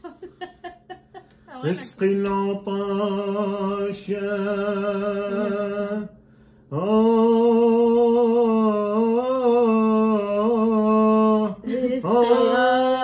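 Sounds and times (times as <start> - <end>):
man singing long notes: 1.6 - 6.1, 6.7 - 13.0.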